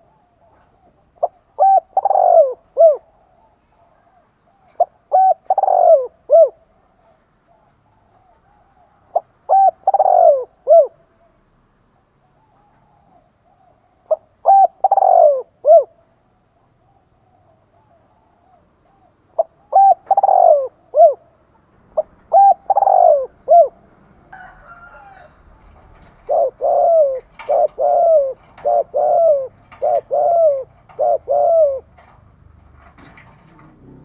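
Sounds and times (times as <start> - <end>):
dove cooing: 0.0 - 32.2.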